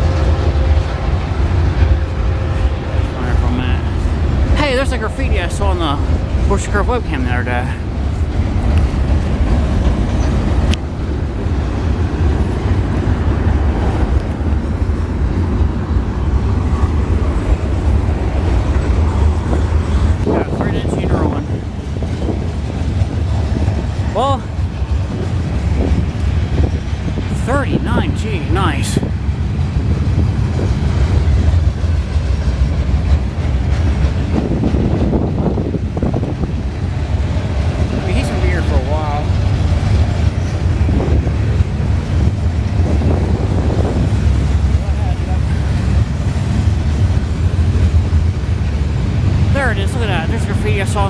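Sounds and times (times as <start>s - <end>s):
freight train rumbling past: 0.0s - 51.0s.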